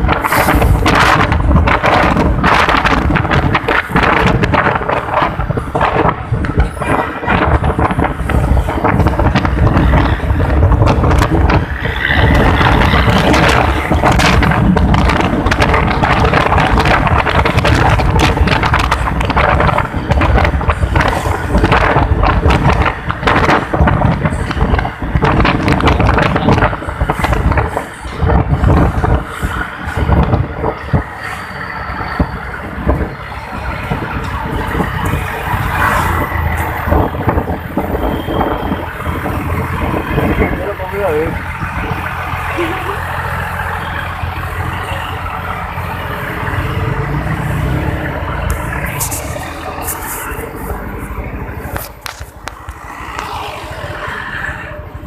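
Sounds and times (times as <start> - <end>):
exhaust crackles: 0.0 - 54.6
bus engine with growling exhaust: 0.0 - 55.0.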